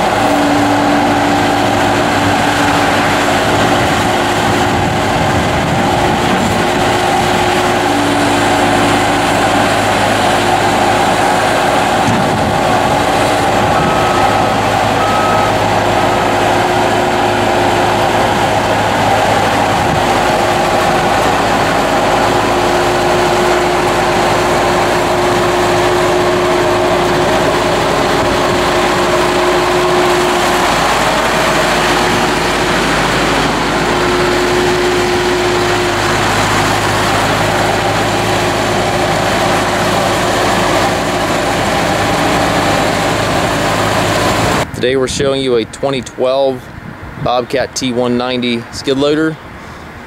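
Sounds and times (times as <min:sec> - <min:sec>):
machine whine: 0:00.0 - 0:44.7
diesel engine running: 0:00.0 - 0:50.0.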